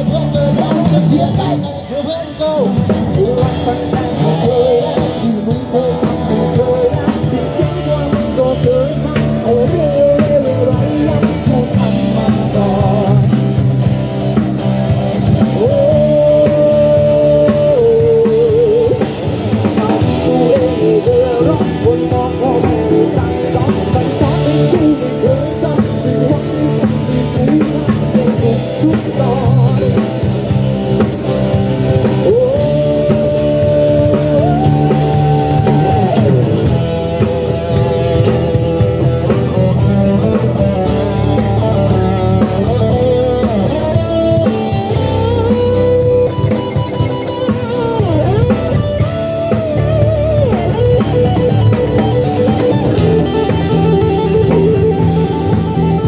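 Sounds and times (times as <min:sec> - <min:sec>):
person singing: 0:00.0 - 0:14.2, 0:14.9 - 0:56.0
acoustic and electric guitars: 0:00.0 - 0:56.0
drum kit: 0:00.0 - 0:56.0.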